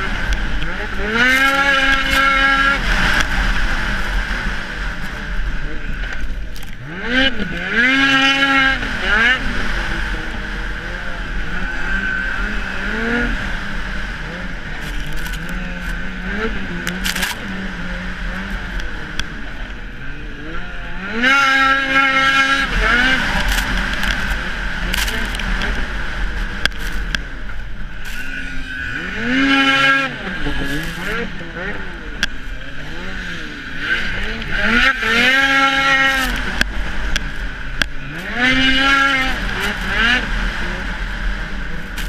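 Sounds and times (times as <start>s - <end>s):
snowmobile engine revving: 0.0s - 42.0s.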